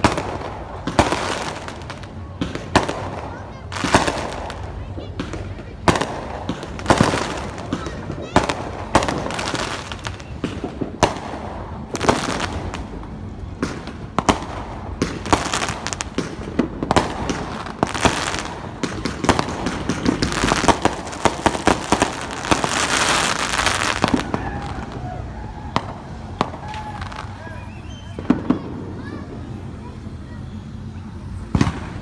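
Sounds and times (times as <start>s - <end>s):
fireworks bangs and pops: 0.0s - 29.7s, 30.8s - 32.0s
fireworks crackling: 0.0s - 32.0s.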